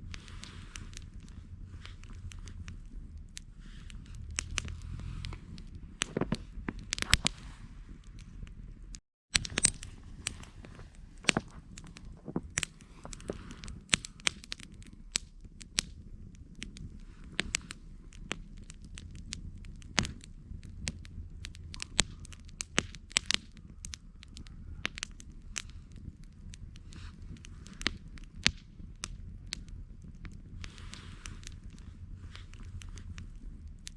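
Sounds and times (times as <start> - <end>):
campfire crackling and popping: 0.0 - 33.9
low rumble of flames: 0.0 - 33.9.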